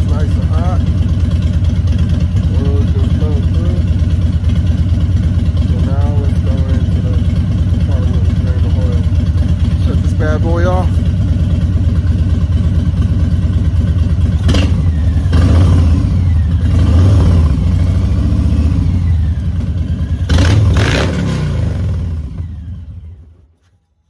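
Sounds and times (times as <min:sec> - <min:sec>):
motorcycle engine running: 0:00.0 - 0:23.6.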